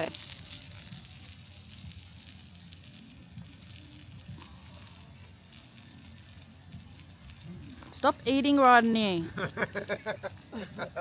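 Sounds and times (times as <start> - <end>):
campfire crackles: 0.0 - 11.0
meat sizzling on a grill: 0.0 - 11.0.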